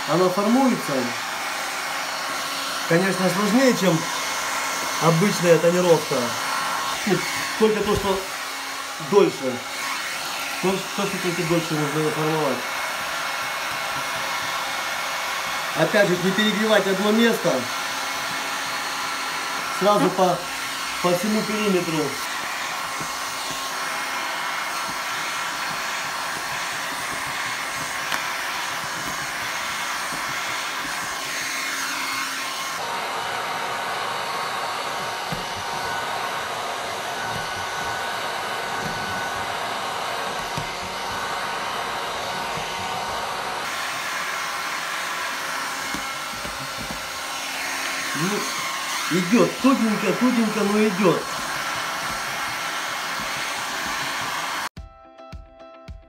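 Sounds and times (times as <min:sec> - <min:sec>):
heat gun blowing: 0:00.0 - 0:54.8.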